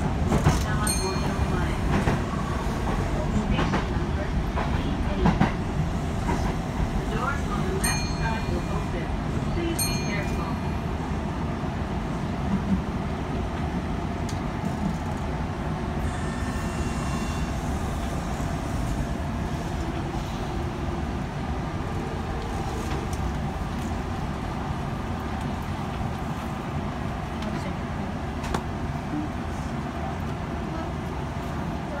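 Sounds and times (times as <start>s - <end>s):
electric train rumble: 0.0s - 32.0s.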